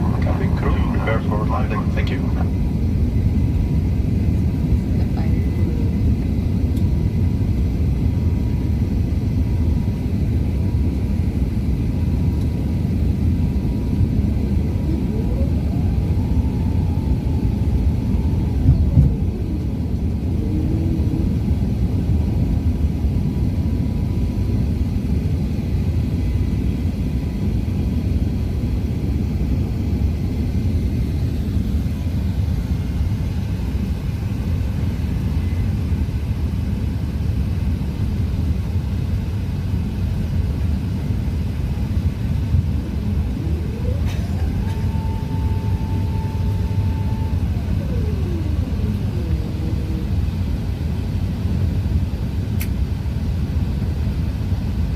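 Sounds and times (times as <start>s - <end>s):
aircraft cabin rumble: 0.0s - 54.9s.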